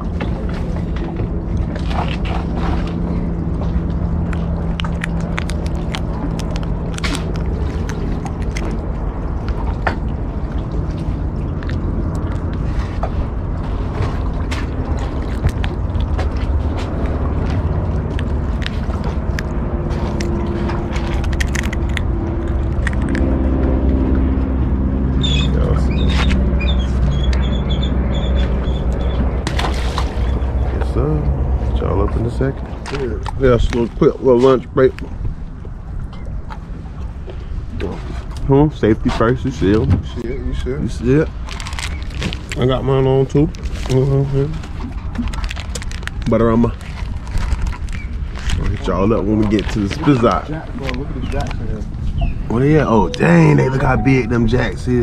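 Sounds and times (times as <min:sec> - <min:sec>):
low rumble: 0:00.0 - 0:55.0.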